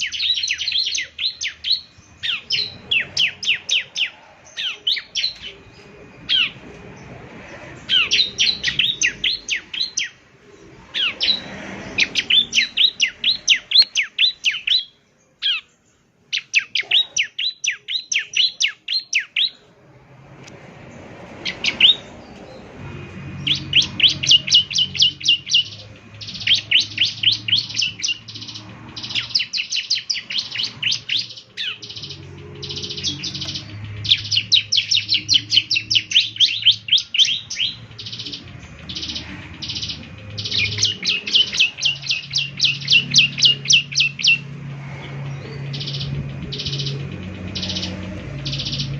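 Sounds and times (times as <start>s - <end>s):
bird singing high sharp chips: 0.0s - 19.7s, 20.9s - 48.9s.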